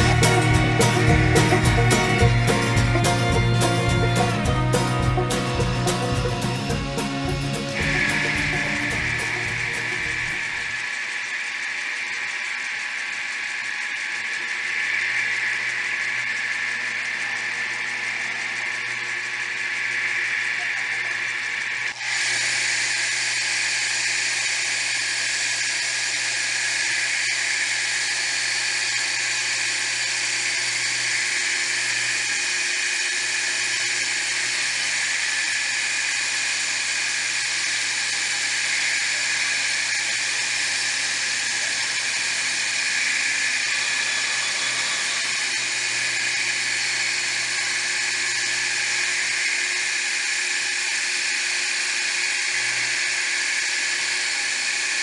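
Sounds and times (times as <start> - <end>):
spindle motor whining: 0.0 - 55.0.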